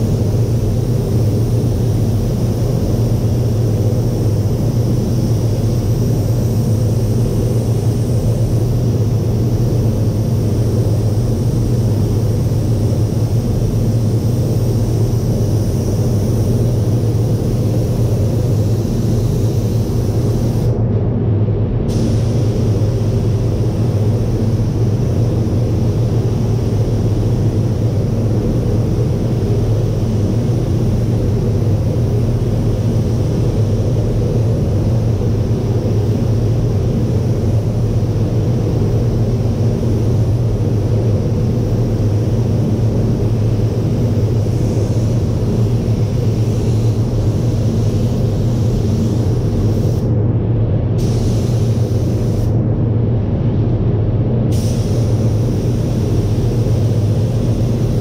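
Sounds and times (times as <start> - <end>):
ventilation fans running: 0.0 - 58.0.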